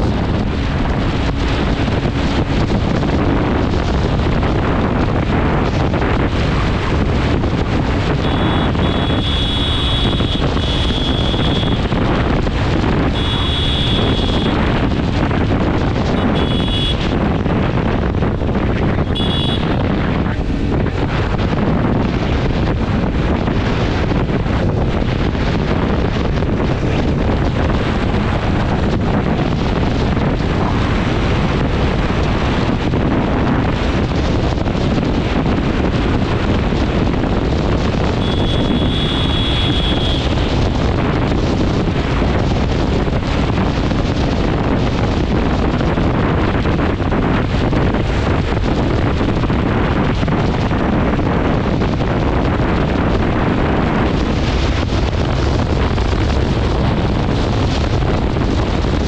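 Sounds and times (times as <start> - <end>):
loud wind rush: 0.0 - 59.0.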